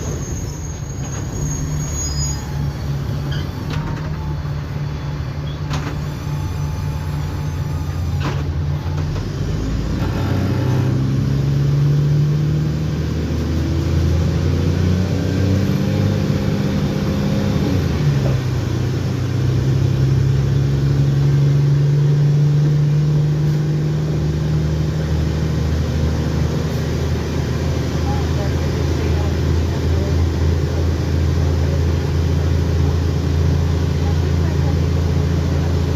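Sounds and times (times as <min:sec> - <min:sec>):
bus engine accelerating: 0:00.0 - 0:35.9.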